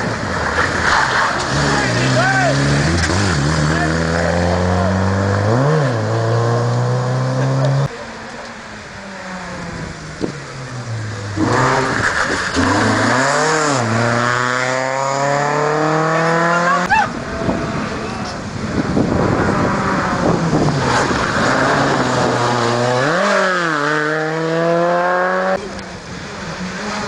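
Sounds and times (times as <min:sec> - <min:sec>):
rally car engine revving: 0:00.0 - 0:08.0, 0:09.3 - 0:27.0.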